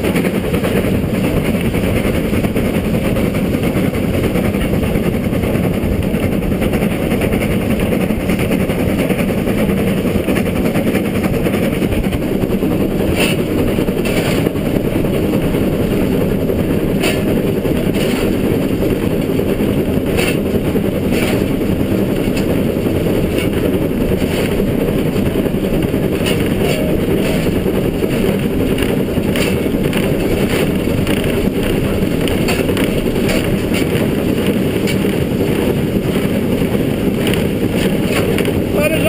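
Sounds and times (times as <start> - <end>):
steam locomotive cab roar: 0.0 - 39.0.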